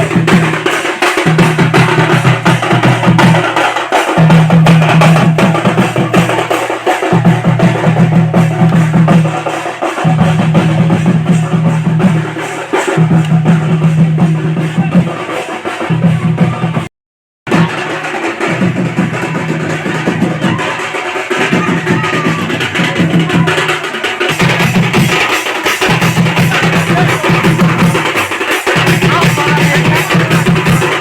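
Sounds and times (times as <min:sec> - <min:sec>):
fast dense drumming: 0:00.0 - 0:16.9, 0:17.5 - 0:31.0.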